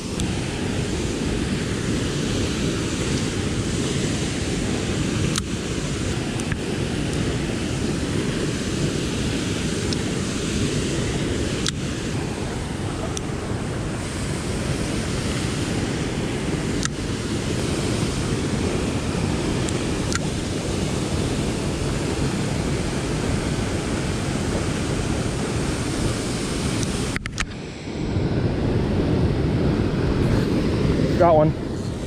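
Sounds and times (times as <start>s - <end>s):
flowing river water: 0.0s - 32.0s
wind on microphone: 0.0s - 32.0s.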